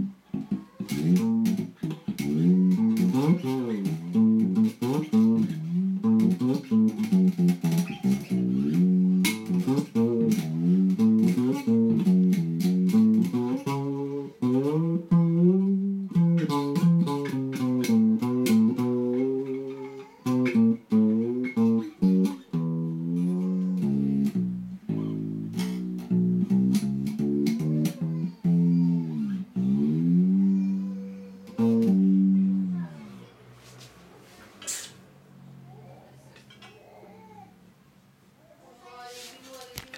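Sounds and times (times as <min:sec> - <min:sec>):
fretless bass plucked notes sliding: 0:00.8 - 0:33.0.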